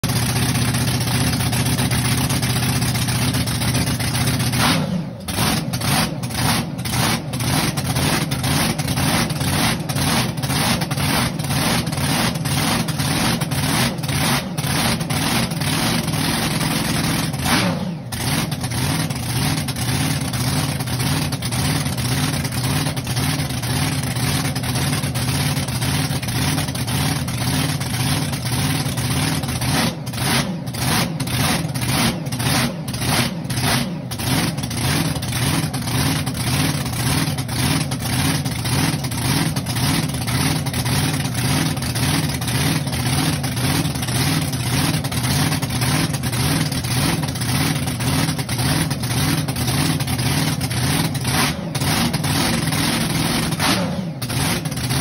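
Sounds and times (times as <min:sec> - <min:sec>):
supercharged boat engine idling: 0:00.0 - 0:55.0.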